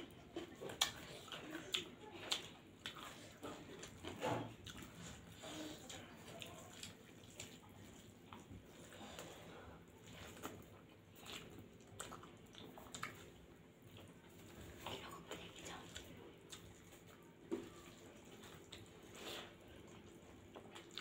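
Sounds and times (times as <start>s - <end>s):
chewing and lip smacks: 0.0s - 21.0s.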